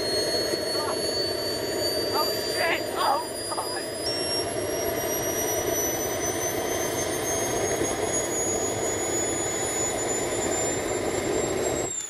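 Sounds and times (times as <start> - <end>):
turbojet engine running: 0.0 - 12.0.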